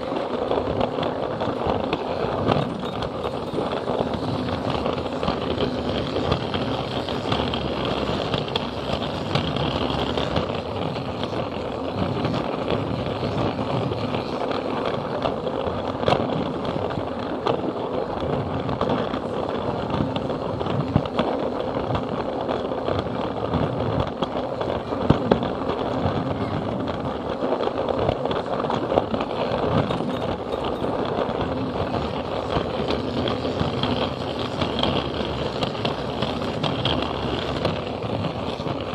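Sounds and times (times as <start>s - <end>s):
wheels rattling on plastic track: 0.0s - 38.9s.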